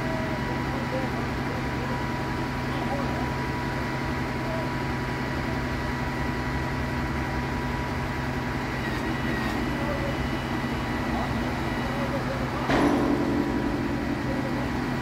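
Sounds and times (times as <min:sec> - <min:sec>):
truck crane engine running: 0:00.0 - 0:15.0.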